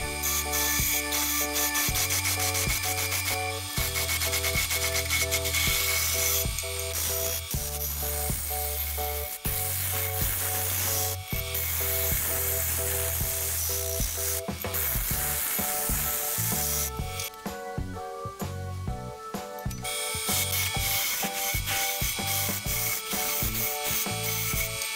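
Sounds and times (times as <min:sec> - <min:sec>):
lathe tool scraping wood: 0:00.0 - 0:17.4, 0:19.8 - 0:24.9
background music with bass: 0:00.0 - 0:24.9.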